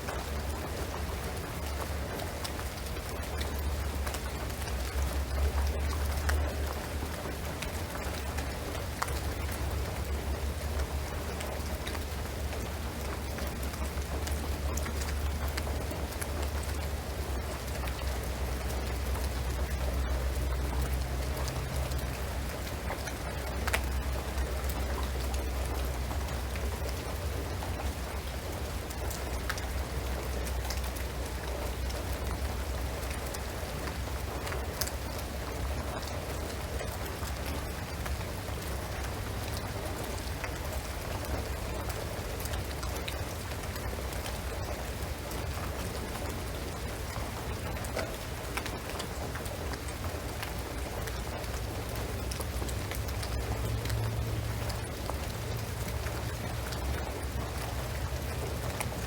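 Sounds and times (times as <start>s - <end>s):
rain on a roof and trees: 0.0s - 59.0s.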